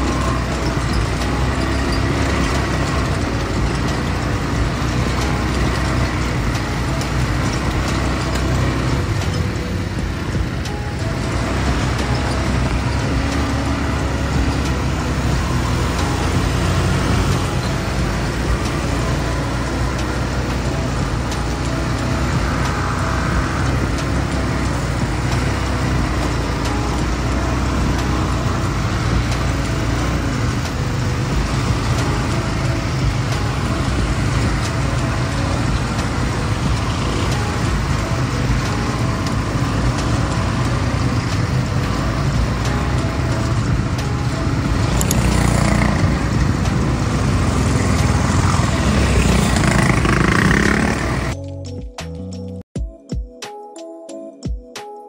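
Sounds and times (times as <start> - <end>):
quad bike engines running: 0.0 - 51.4.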